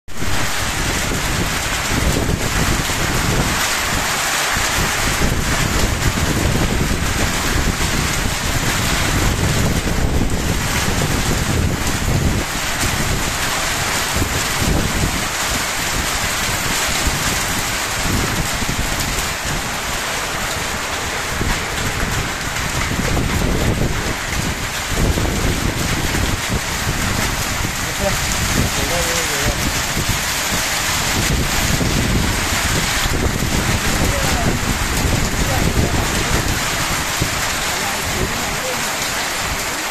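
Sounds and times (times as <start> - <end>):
hail and rain falling: 0.1 - 39.9
wind buffeting microphone: 0.2 - 39.9.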